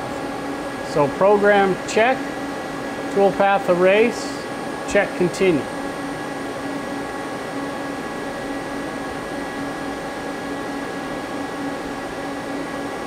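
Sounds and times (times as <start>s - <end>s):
machinery whirring hum: 0.0s - 13.0s.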